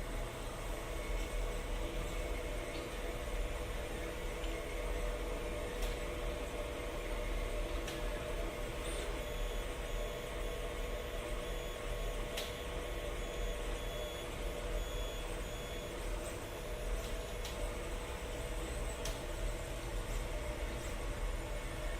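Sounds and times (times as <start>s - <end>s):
printer fan and motors humming: 0.0s - 21.9s.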